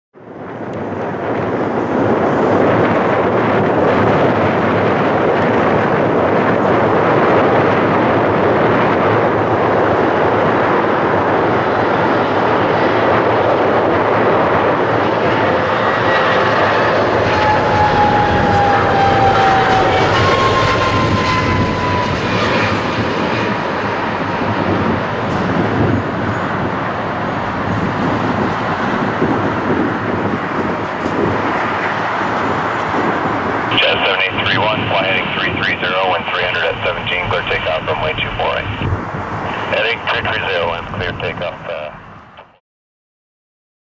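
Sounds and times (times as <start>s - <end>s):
jet airliner passing overhead: 0.2s - 42.5s.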